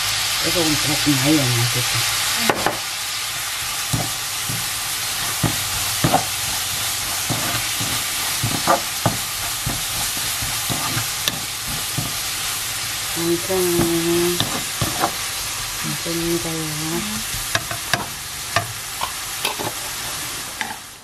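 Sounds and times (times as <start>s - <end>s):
fish sizzling in oil: 0.0s - 21.0s
spatula scraping a wok: 3.1s - 20.9s.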